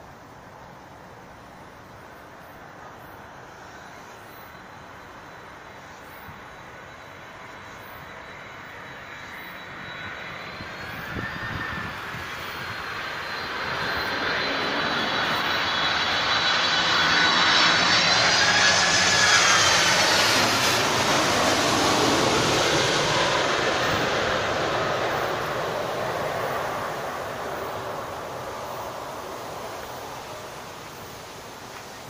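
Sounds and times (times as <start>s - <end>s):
faint high whine: 0.0s - 32.0s
aircraft flying over: 2.6s - 32.0s.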